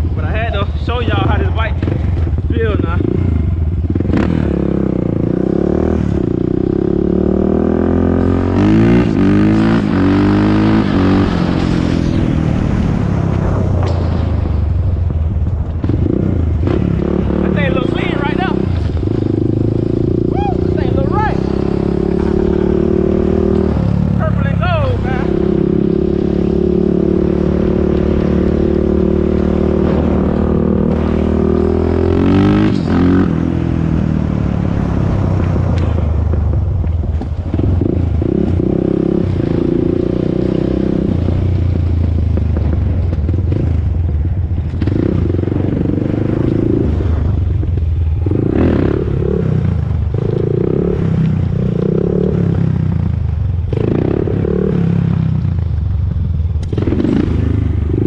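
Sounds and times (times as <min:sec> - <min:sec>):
atv engine revving: 0:00.0 - 0:14.3, 0:15.6 - 0:58.0.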